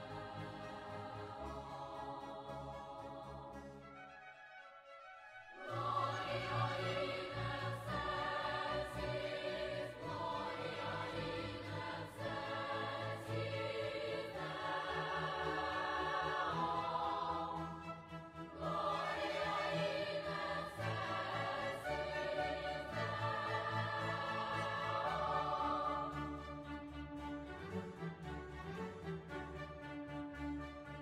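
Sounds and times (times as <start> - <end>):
choir singing held chords: 0.0 - 4.0, 5.6 - 27.2.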